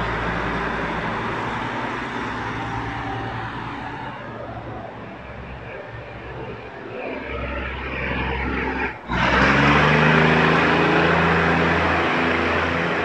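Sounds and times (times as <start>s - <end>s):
diesel train engine rumbling: 0.0s - 13.0s
train passing close by: 0.0s - 13.0s.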